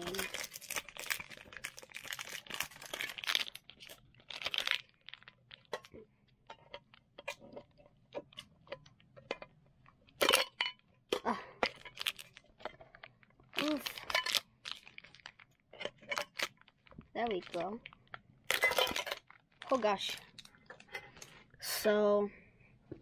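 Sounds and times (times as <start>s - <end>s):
plastic packaging crackling: 0.0s - 9.4s, 11.6s - 21.5s.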